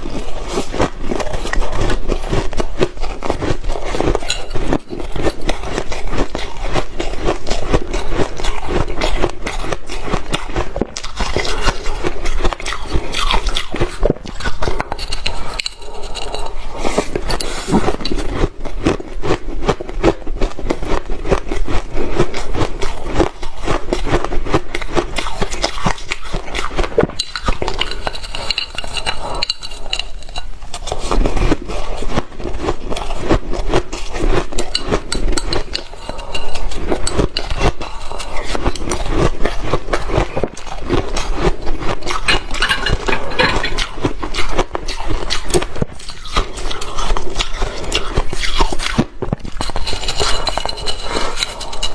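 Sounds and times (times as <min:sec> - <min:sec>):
chopsticks scraping ice: 0:00.0 - 0:51.9.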